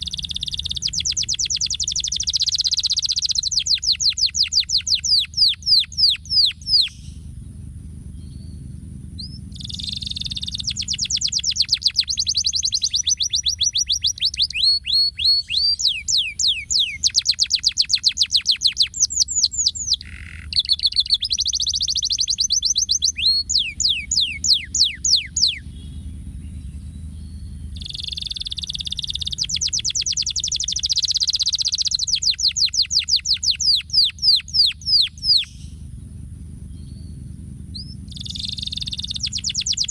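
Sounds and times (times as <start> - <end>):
canary singing: 0.0 - 39.9
steady low rumble: 0.0 - 39.9.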